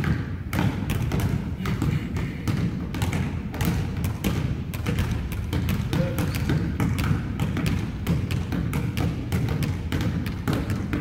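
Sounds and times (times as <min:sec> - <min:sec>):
basketball bouncing on wooden floor: 0:00.0 - 0:11.0.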